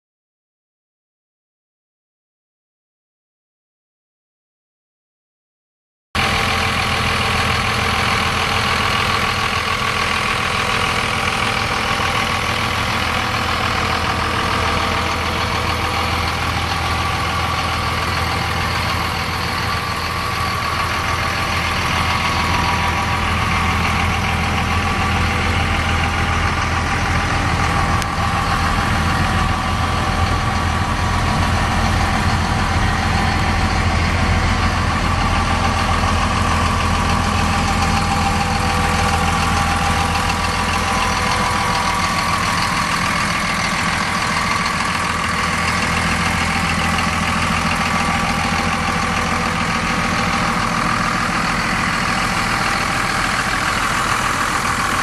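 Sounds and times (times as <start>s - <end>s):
diesel engine idling: 6.2s - 55.0s.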